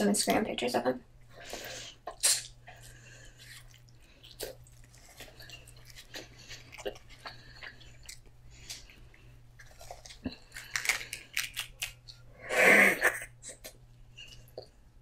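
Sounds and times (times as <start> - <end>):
person chewing: 1.5 - 12.4, 13.0 - 14.9.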